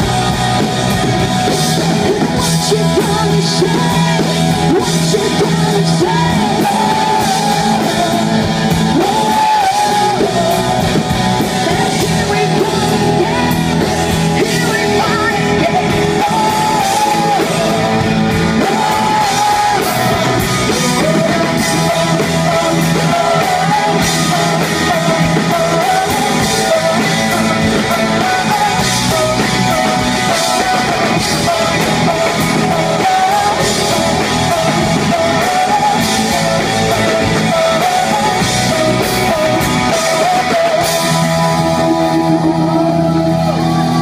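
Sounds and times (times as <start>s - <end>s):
drums: 0.0s - 44.0s
electric guitars: 0.0s - 44.0s
woman singing: 2.4s - 44.0s.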